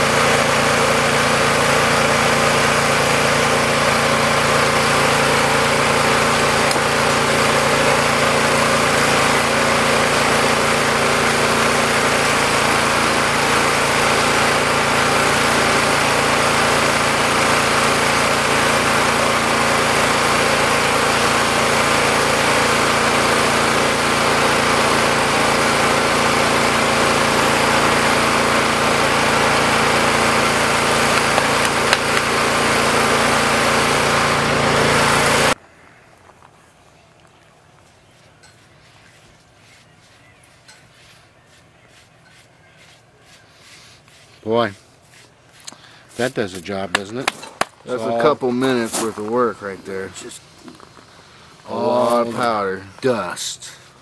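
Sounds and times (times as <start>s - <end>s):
rock crusher pulverizing quartz: 0.0s - 35.6s, 45.6s - 54.0s
small engine running loudly: 0.0s - 35.6s, 39.6s - 54.0s.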